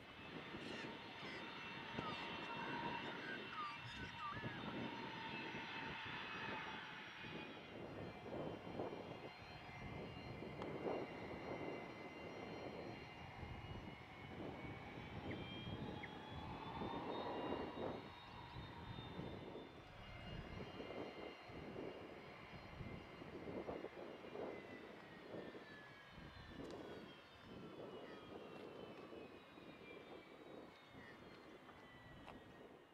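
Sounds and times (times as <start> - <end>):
jet engines whining: 0.0 - 32.9.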